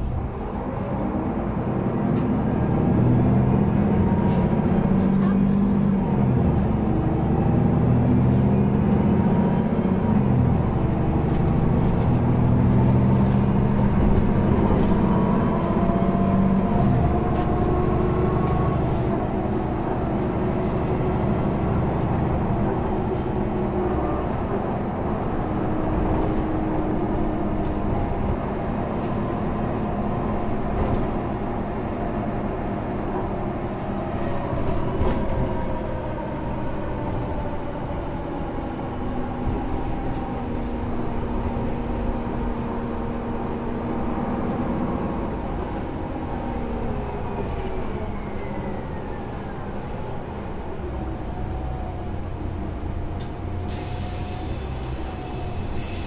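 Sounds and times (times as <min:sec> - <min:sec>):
city bus engine: 0:00.0 - 0:56.0.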